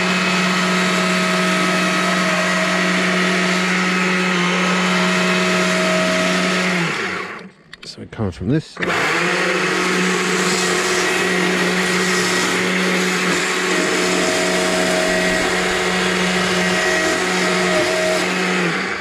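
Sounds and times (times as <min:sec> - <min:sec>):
chainsaw cutting wood: 0:00.0 - 0:07.5, 0:08.8 - 0:19.0.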